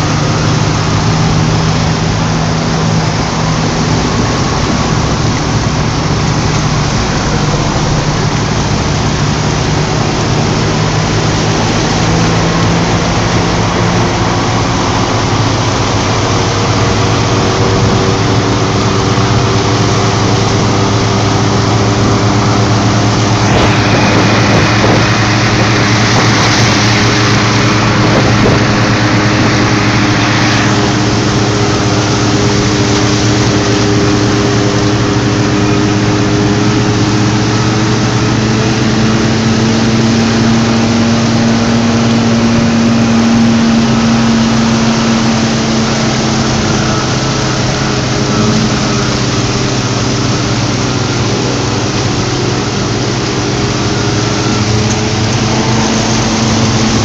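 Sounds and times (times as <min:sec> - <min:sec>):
road and wind noise: 0:00.0 - 0:57.0
vehicle engine humming: 0:00.0 - 0:57.0.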